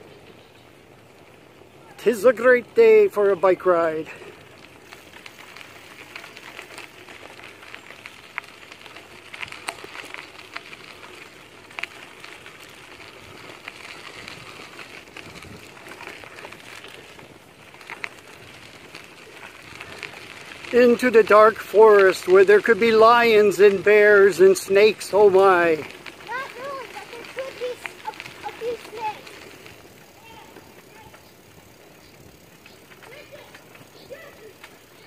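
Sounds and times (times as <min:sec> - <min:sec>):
bicycle tyres rolling over gravel: 0:00.0 - 0:35.0.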